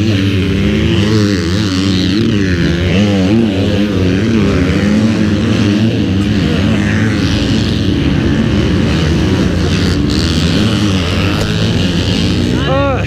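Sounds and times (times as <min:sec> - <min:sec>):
motorbike engines revving: 0:00.0 - 0:13.0.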